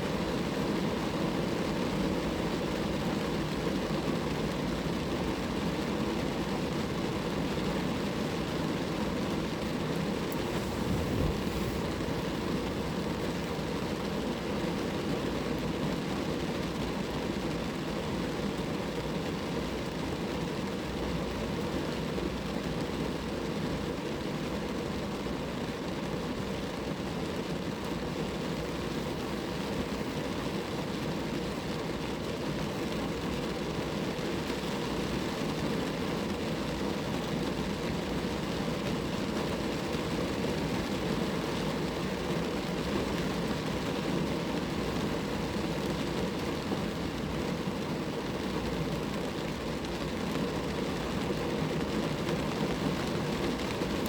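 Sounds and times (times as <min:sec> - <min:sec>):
rain falling on a car: 0:00.0 - 0:54.0.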